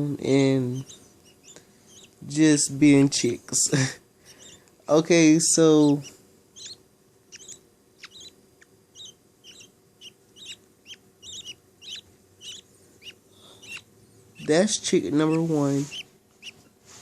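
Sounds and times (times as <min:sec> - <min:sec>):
bird chicks chirping: 0:00.0 - 0:16.8.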